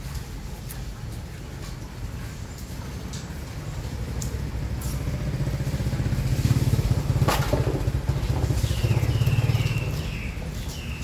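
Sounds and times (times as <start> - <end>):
engine pulsing rumble: 0.0 - 11.0.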